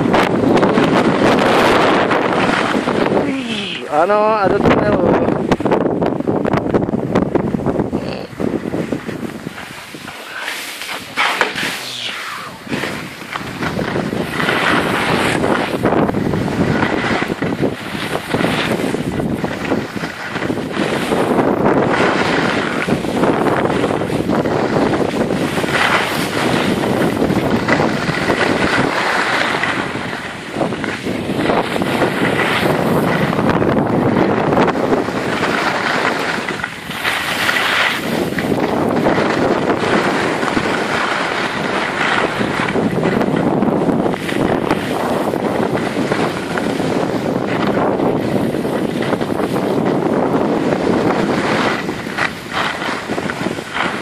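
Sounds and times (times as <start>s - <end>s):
skis scraping over snow: 0.0s - 54.0s
wind rushing over microphone: 0.0s - 54.0s.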